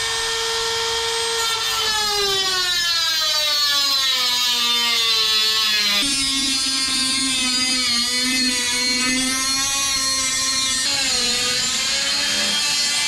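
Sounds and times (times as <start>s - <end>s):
rotary tool cutting metal: 0.0s - 13.0s.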